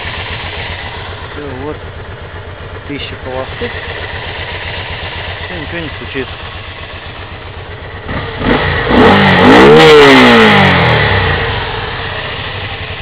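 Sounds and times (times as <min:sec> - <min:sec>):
motorcycle engine revving from idle: 0:00.0 - 0:13.0.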